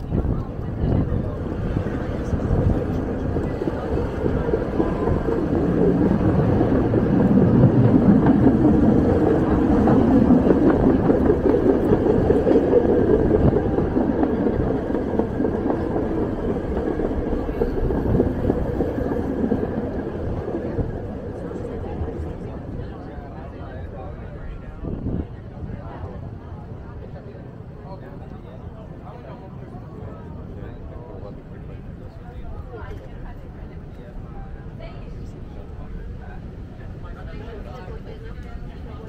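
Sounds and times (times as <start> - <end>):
streetcar wheels rumbling on rails: 0.0 - 39.0.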